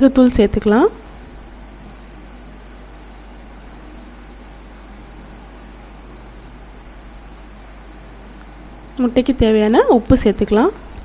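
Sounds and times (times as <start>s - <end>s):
high-pitched electrical whine: 0.0s - 11.0s
low hum: 0.0s - 11.0s.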